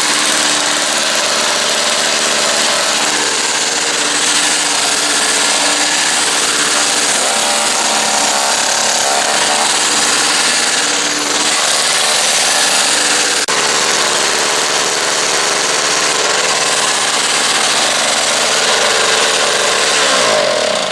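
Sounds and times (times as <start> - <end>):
snowblower engine running loudly: 0.0 - 20.9.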